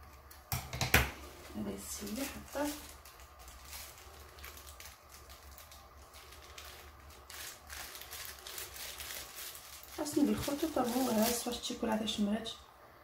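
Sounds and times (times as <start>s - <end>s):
piping bag rustling: 0.0s - 12.5s
low steady hum: 0.0s - 13.0s.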